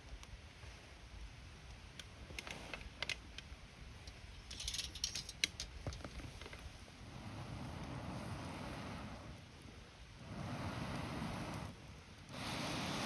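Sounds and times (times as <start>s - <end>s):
campfire crackling and popping: 0.0s - 13.0s
low rumble of burning fire: 0.0s - 13.0s.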